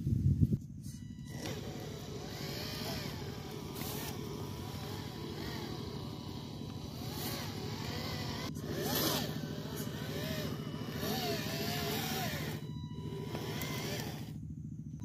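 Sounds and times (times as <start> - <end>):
toy tractor motor whining: 0.8 - 14.4.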